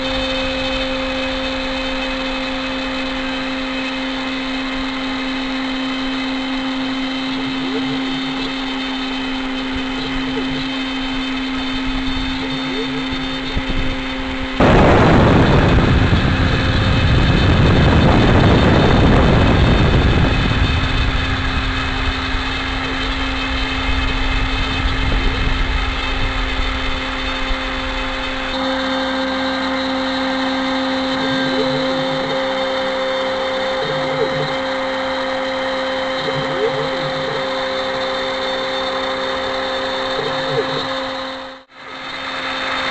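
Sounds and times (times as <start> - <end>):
loud rushing cutting noise: 0.0 - 42.9
router spindle whining: 0.0 - 42.9.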